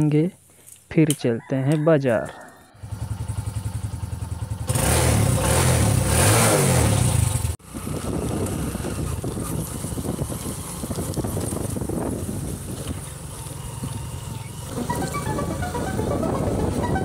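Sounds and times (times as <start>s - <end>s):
motorcycle engine idling and revving: 2.6s - 17.0s.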